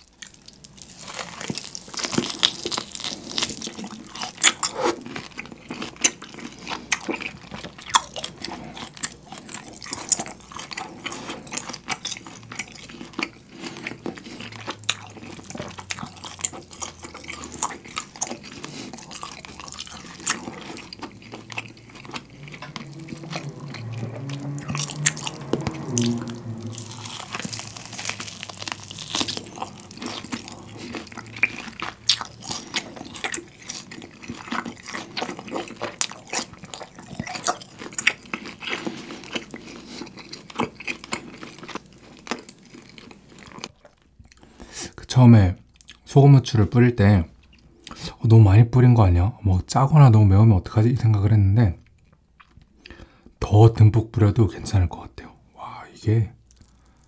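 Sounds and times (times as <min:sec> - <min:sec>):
chewing steak: 0:00.0 - 0:45.0, 0:45.6 - 0:48.2, 0:51.6 - 0:53.4, 0:56.4 - 0:57.0.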